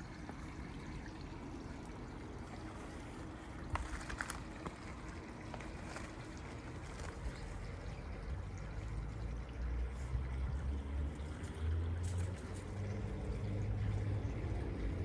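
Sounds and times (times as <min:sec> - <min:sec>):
water trickling into a pond: 0:00.0 - 0:15.0.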